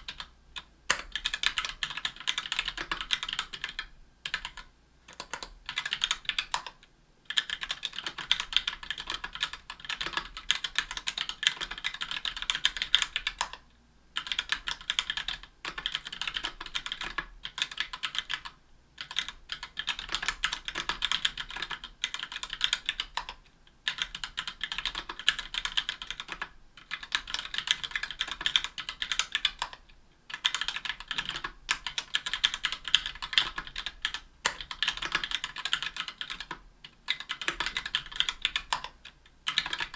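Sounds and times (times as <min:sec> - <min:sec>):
typing on a keyboard: 0:00.0 - 0:13.6, 0:14.2 - 0:39.9.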